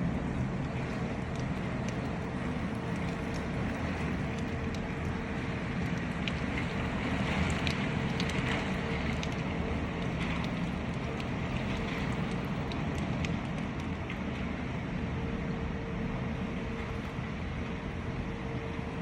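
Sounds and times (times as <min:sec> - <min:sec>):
raindrop splashes: 0:00.0 - 0:19.0.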